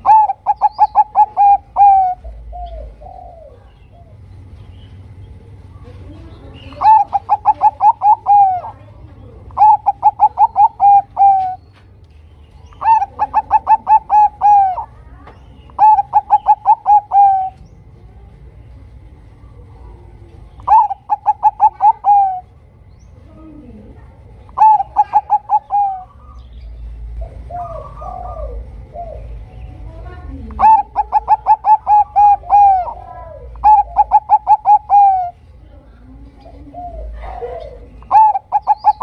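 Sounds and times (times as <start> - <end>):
dove cooing: 0.0 - 4.3, 5.8 - 11.7, 12.7 - 17.7, 19.5 - 22.6, 23.3 - 39.0.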